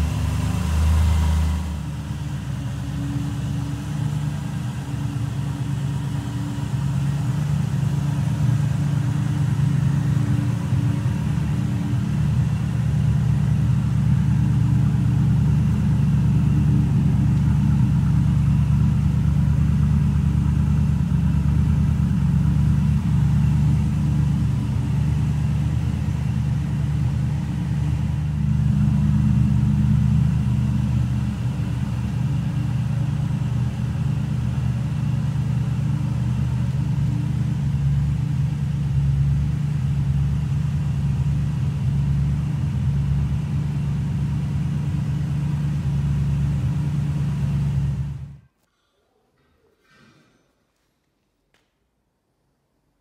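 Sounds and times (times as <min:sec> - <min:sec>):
car engine idling: 0:00.0 - 0:48.5.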